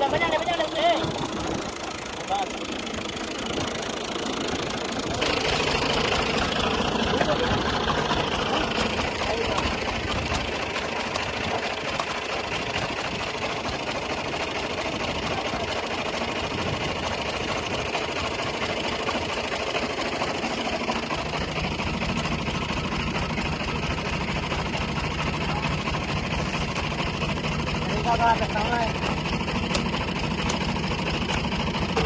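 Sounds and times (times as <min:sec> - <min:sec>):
combine harvester engine: 0:00.0 - 0:32.0.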